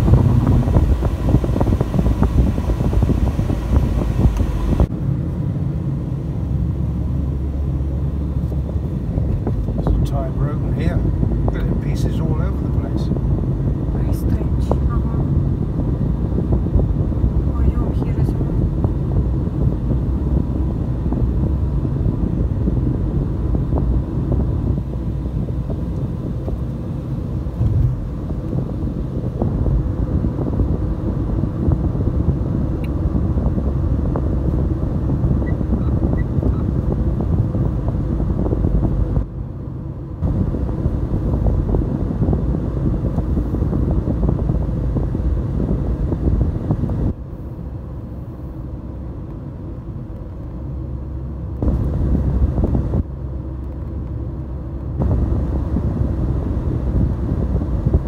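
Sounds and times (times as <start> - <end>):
car interior road and engine rumble: 0.0 - 58.0.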